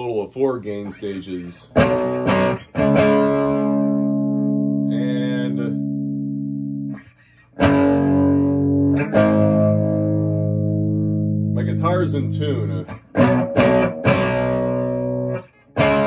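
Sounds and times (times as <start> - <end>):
overdriven electric guitar chords: 1.7 - 16.0.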